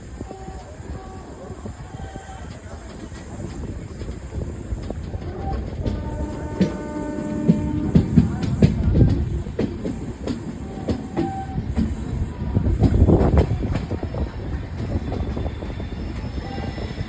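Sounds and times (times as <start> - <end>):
low rumble of train: 0.0 - 17.0
train wheels clattering over rail joints: 0.0 - 17.0.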